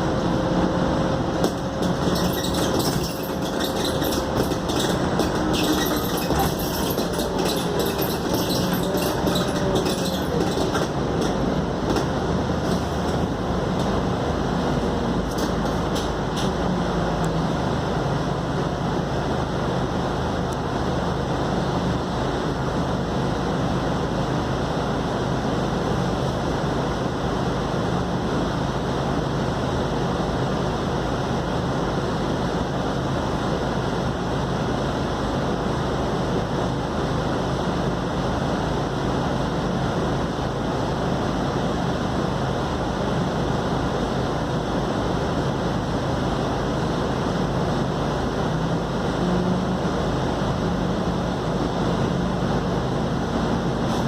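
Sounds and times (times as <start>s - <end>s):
bus engine drone: 0.0s - 54.0s
road and tyre noise: 0.0s - 54.0s.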